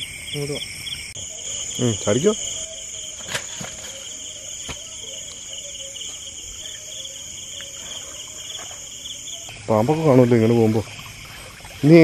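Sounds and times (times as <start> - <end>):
crickets and insects chirring: 0.0 - 12.0
pulsing insect trill: 0.0 - 12.0.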